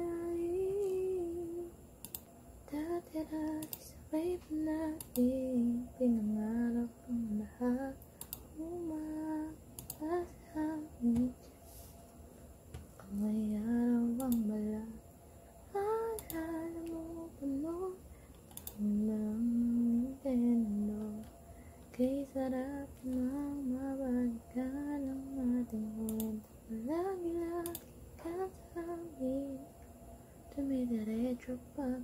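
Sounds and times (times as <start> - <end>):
woman singing softly: 0.0 - 1.8, 2.7 - 11.6, 13.0 - 15.0, 15.6 - 32.0.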